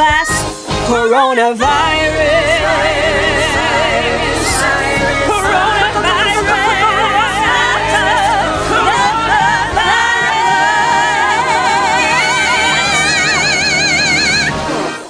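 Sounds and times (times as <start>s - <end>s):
voices singing in harmony: 0.0s - 14.8s
musical backing track: 0.0s - 15.0s.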